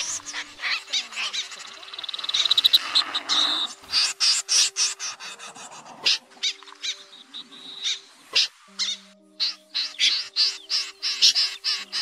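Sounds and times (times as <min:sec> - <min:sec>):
snipe calls: 0:00.0 - 0:12.0.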